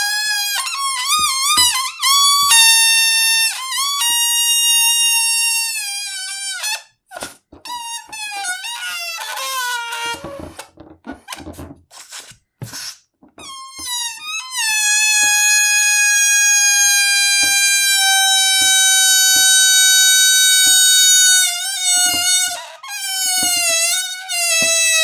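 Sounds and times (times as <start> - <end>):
balloon air squealing: 0.0 - 25.0.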